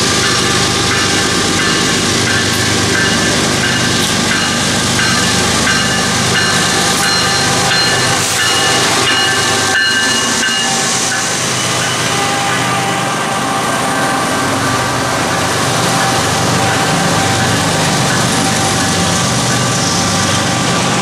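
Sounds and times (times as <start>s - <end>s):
crossing bell ringing: 0.0s - 21.0s
diesel locomotive passing: 0.0s - 21.0s
train wheel noise: 0.0s - 21.0s.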